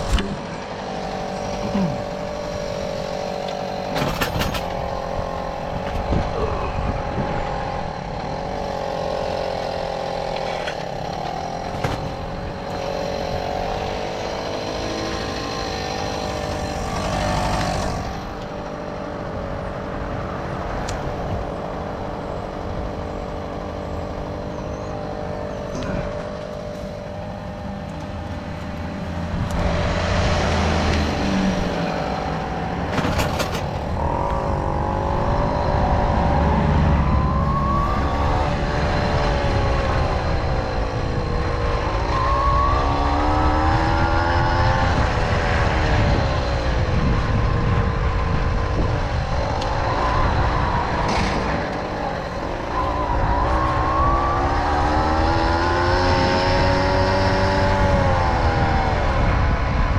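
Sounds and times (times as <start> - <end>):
moped engine running: 0.0 - 59.9.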